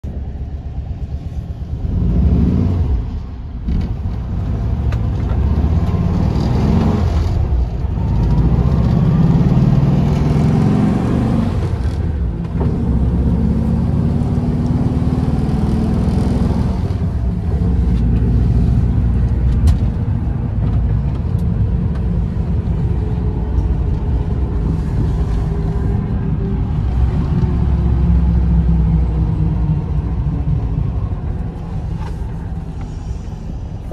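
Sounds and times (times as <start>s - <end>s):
van engine rumbling: 0.0s - 33.9s.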